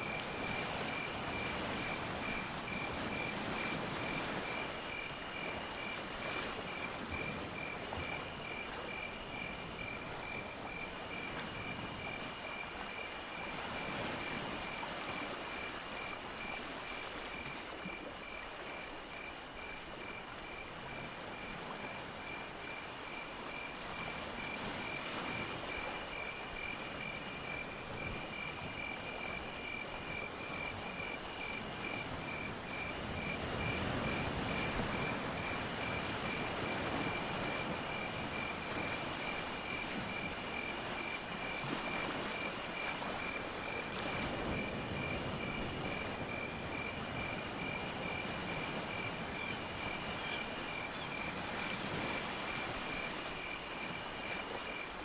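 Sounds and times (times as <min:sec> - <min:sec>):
cricket chirping: 0:00.0 - 0:55.0
steady background hiss: 0:00.0 - 0:55.0.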